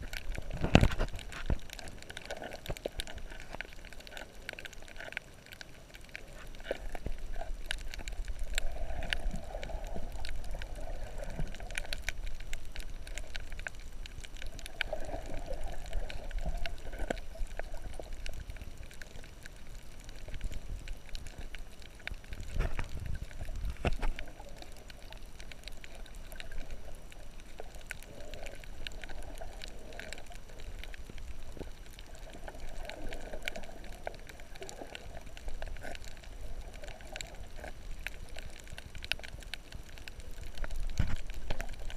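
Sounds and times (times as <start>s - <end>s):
muffled swells of moving water: 0.0s - 41.9s
underwater clicks and crackles: 0.0s - 41.9s.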